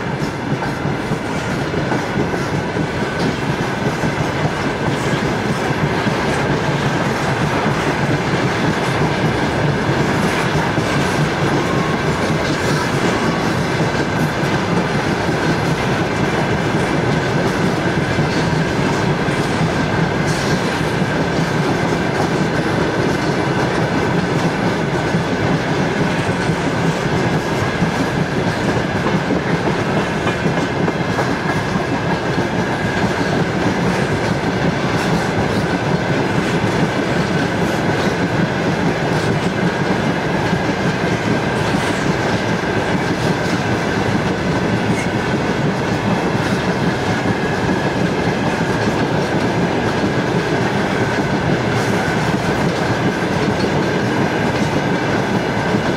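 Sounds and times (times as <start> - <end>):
railway cars rolling on rails: 0.0 - 55.9.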